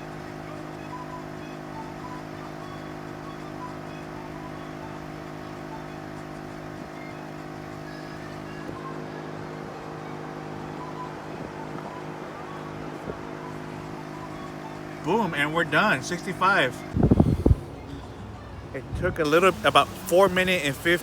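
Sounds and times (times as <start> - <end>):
air compressor running: 0.0 - 10.9, 12.3 - 21.0.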